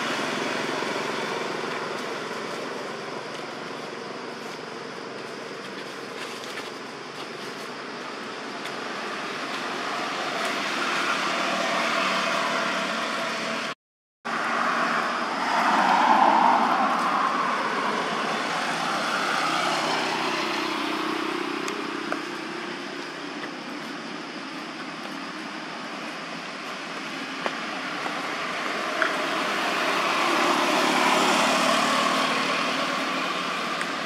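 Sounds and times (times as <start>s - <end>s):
passing vehicles rushing: 0.0s - 5.1s, 7.9s - 23.4s, 26.3s - 34.0s.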